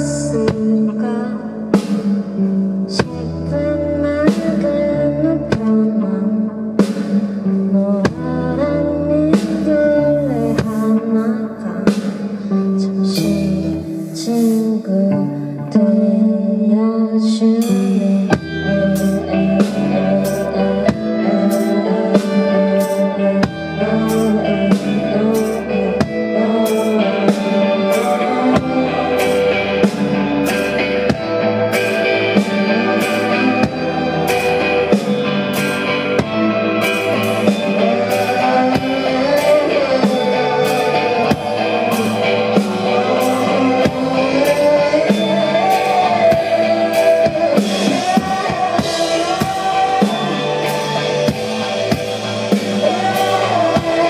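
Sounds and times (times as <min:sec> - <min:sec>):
drum kit cymbal beat: 0:00.0 - 0:15.4, 0:17.6 - 0:54.0
live band music: 0:00.0 - 0:54.0.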